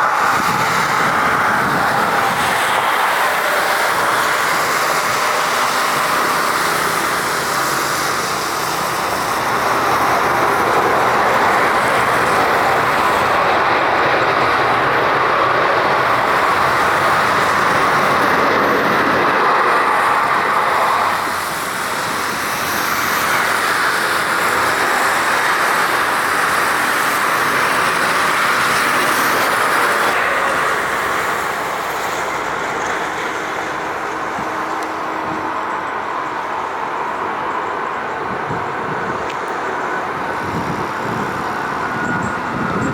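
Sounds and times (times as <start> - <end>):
jet airliner landing on wet runway: 0.0 - 42.9.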